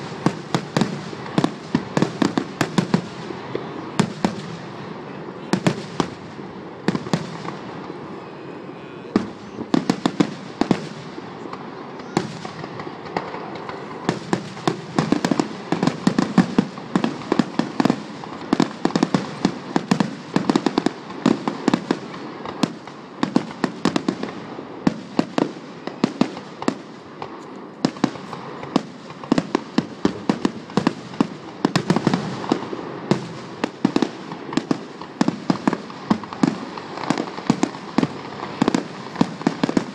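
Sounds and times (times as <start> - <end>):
fireworks popping and cracking: 0.0 - 39.9.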